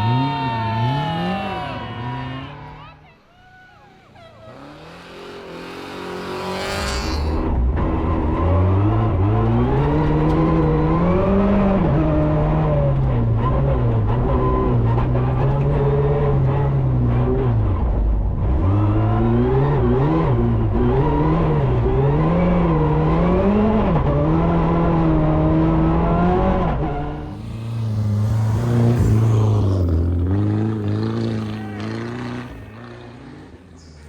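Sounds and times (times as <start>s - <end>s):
rally car engine revving: 0.0s - 2.9s, 4.1s - 34.0s.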